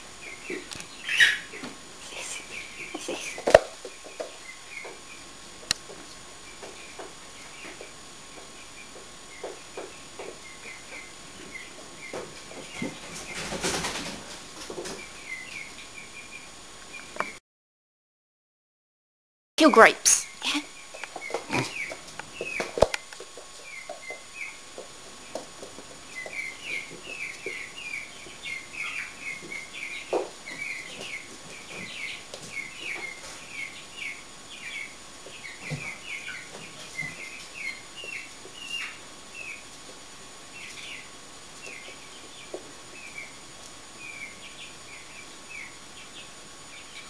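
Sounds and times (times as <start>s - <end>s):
chicken peeping: 0.0s - 17.2s, 20.2s - 47.0s.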